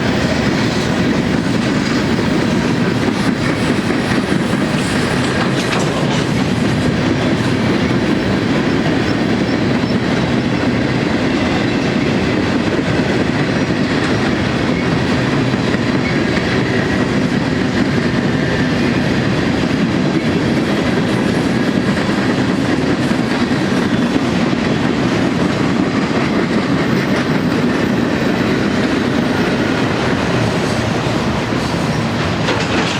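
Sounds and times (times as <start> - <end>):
freight train wheels rumbling on track: 0.0 - 32.9.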